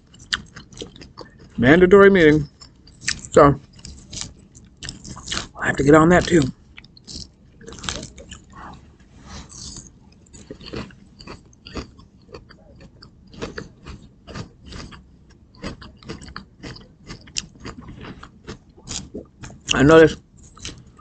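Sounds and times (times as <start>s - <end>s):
person chewing crunchy salad: 0.1s - 21.0s.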